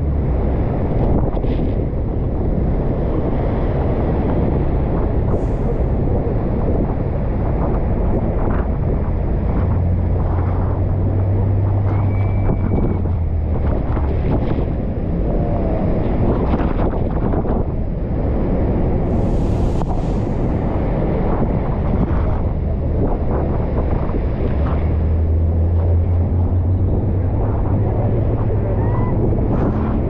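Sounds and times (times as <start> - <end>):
low boat engine hum: 0.0 - 30.0
wind on microphone: 0.0 - 30.0.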